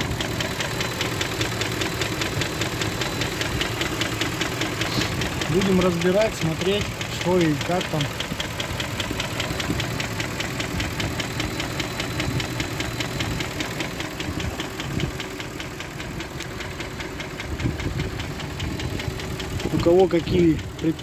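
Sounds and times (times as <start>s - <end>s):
car engine idling: 0.0s - 21.0s
engine knocking: 0.0s - 21.0s.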